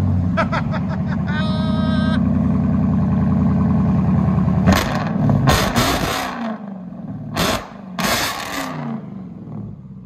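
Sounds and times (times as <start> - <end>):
car engine rumbling and revving: 0.0 - 10.0.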